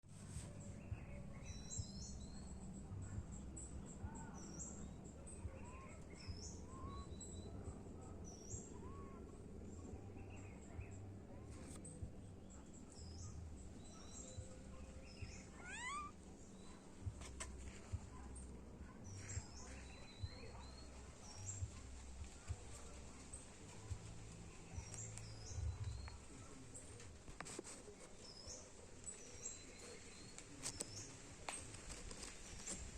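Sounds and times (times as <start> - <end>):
birds chirping: 0.4 - 32.9
low background rumble: 0.5 - 27.2.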